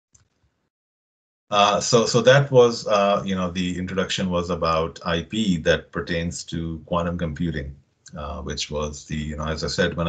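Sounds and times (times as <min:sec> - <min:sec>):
man speaking: 0:01.5 - 0:10.0.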